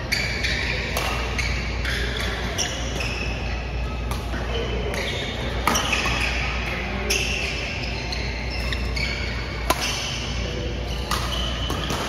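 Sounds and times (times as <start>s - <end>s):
court shoes squeaking: 0.0s - 12.0s
steady low hum: 0.0s - 12.0s
rackets hitting shuttlecock: 0.4s - 7.8s, 8.6s - 12.0s.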